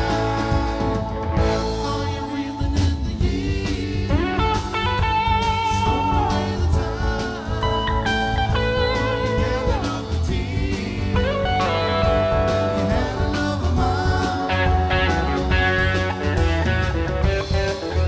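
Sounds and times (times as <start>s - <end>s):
lead electric guitar: 0.0s - 2.4s, 4.0s - 18.0s
bass guitar: 0.0s - 18.0s
drums: 0.0s - 18.0s.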